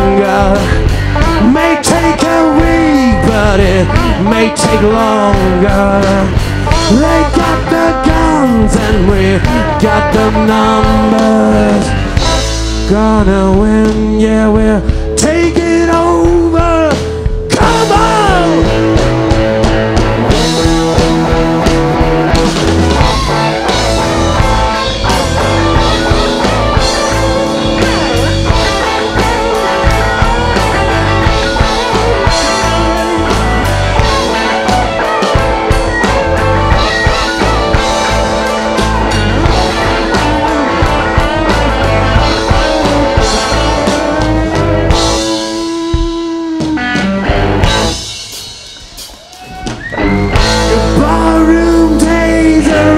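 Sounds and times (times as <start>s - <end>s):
drum kit beat: 0.0s - 52.9s
guitar: 0.0s - 52.9s
rock band playing live: 0.0s - 52.9s.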